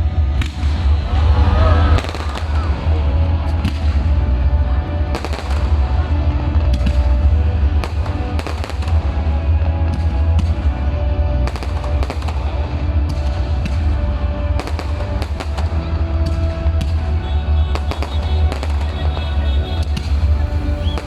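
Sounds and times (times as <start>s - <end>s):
fireworks bangs and pops: 0.0s - 21.0s
music playing: 0.0s - 21.0s.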